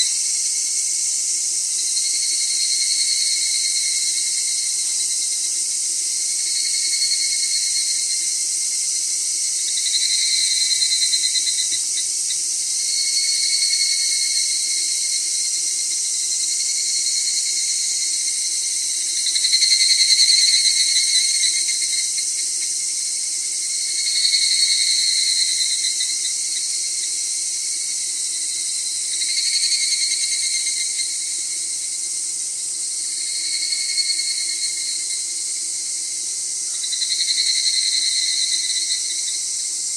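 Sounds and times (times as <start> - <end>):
insect call: 0.0 - 39.9
insects droning: 0.0 - 39.9.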